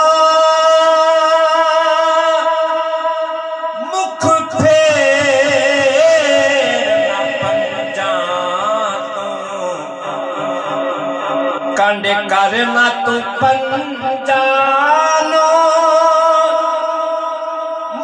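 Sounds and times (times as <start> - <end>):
man singing through loudspeaker: 0.0 - 18.0.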